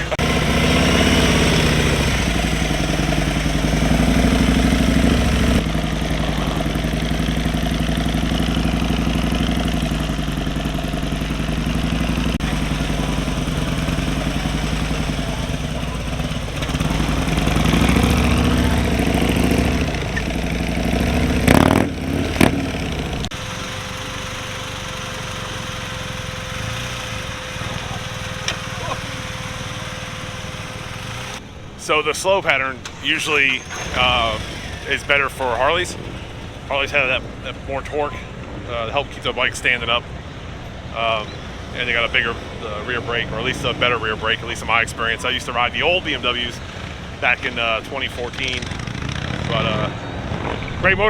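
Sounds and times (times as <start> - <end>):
motorcycle engine at low speed: 0.0 - 31.8, 32.8 - 51.0.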